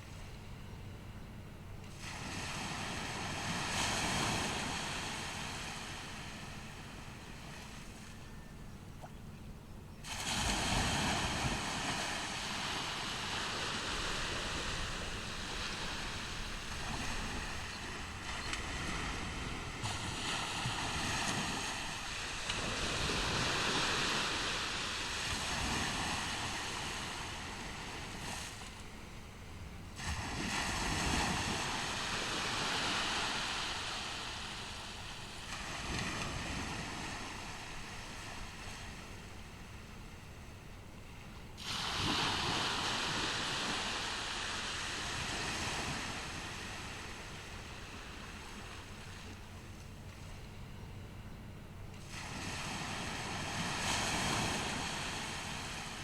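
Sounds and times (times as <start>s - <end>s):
ocean surf breaking on beach: 1.9s - 8.2s, 10.0s - 40.4s, 41.6s - 50.4s, 51.9s - 56.0s.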